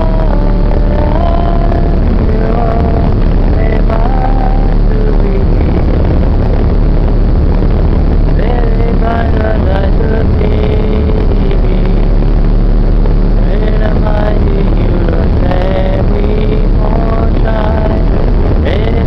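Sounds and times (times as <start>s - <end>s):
motorboat engine rumble: 0.0s - 19.0s.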